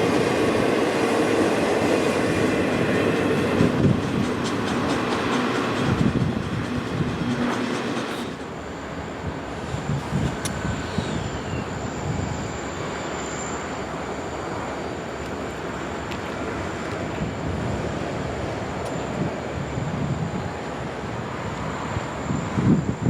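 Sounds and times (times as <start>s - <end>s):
train cars rolling on rails: 0.0s - 23.0s.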